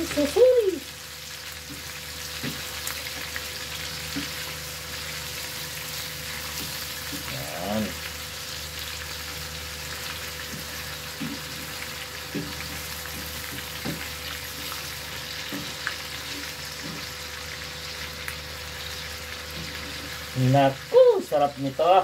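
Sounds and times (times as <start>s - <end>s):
patties sizzling in a frying pan: 0.0s - 22.0s.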